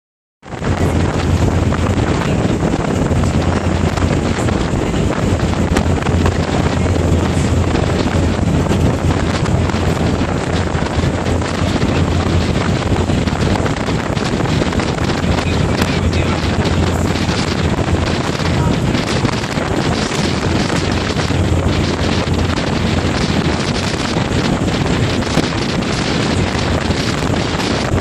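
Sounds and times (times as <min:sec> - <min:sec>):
ferry engine rumble: 0:00.4 - 0:28.0
water along hull: 0:00.4 - 0:28.0
wind buffeting microphone: 0:00.4 - 0:28.0.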